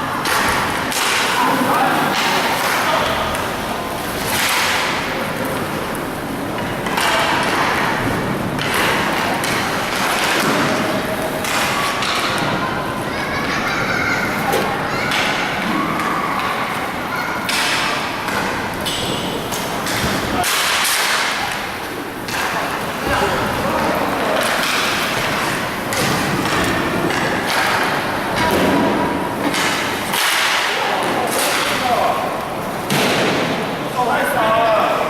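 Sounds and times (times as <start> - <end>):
steady rolling noise: 0.0 - 35.0
faint voices: 4.8 - 35.0.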